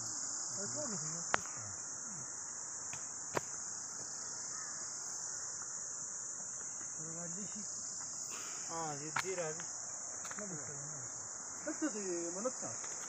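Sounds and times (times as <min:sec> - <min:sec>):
insect chorus shrilling: 0:00.0 - 0:13.0.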